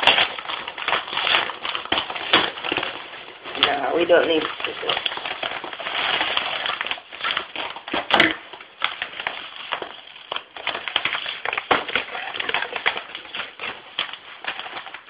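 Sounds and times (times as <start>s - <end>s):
envelope crackling and rustling: 0.0s - 15.0s
envelope ripping: 0.0s - 15.0s.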